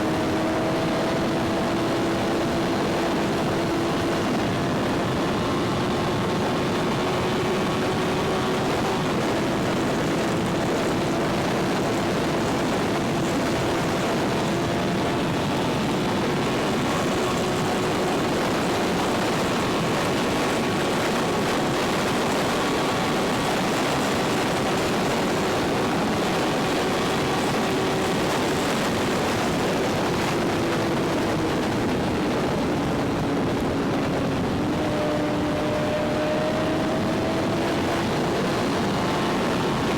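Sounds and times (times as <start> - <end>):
motorcycle engine droning: 0.0 - 39.9
wind rush on microphone: 0.0 - 39.9.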